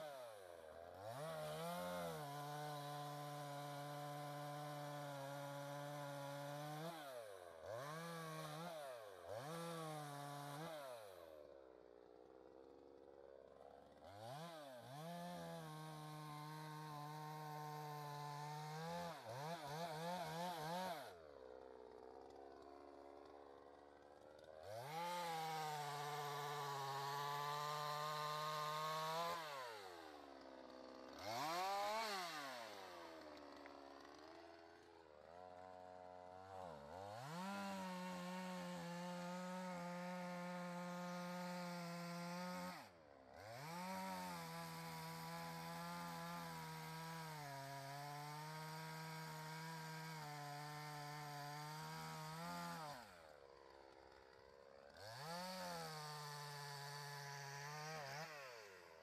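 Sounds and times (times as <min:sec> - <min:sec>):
chainsaw cutting logs: 0:00.0 - 0:59.0.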